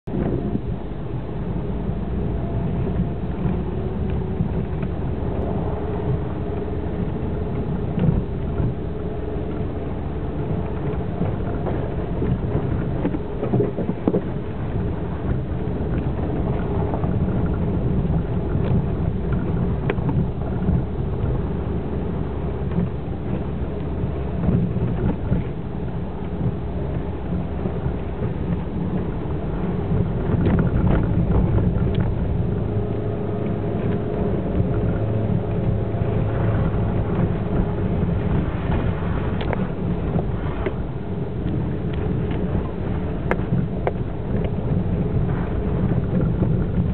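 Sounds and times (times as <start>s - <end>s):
engine and tyre rumble: 0.0s - 46.9s.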